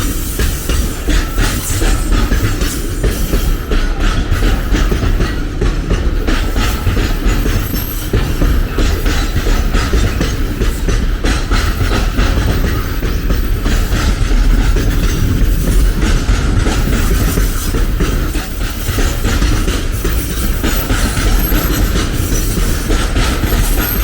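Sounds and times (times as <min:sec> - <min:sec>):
train rumbling past: 0:00.0 - 0:24.0
wheels clacking over rail joints: 0:00.0 - 0:24.0.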